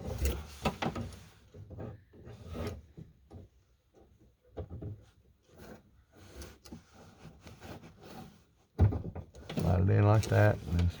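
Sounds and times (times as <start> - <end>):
clicks knocks and rubbing in door: 0.0 - 11.0.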